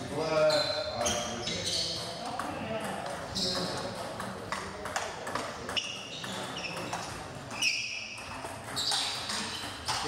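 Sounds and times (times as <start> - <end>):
voices in a hall: 0.0 - 10.0
table tennis ball clicking: 1.8 - 10.0.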